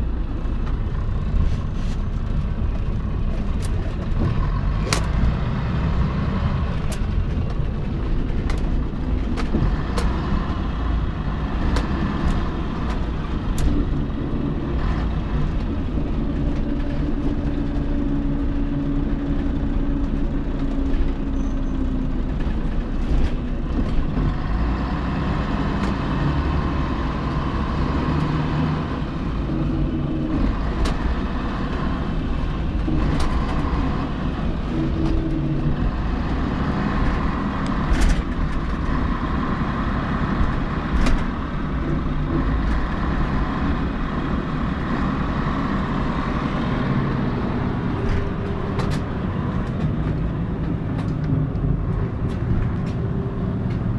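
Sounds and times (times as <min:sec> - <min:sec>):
bus diesel engine humming: 0:00.0 - 0:53.9.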